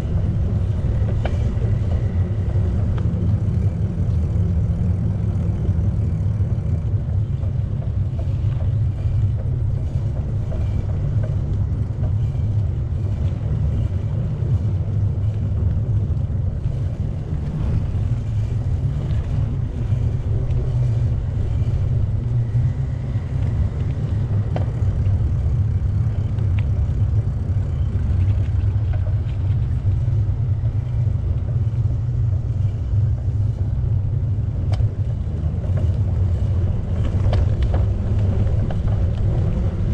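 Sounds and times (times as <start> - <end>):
bicycle tyre noise on path: 0.0 - 39.9
wind buffeting microphone: 0.0 - 39.9.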